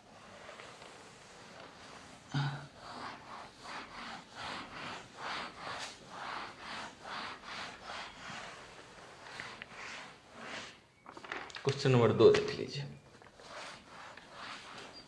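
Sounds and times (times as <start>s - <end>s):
duster rubbing chalkboard: 0.0s - 10.9s, 13.1s - 15.0s.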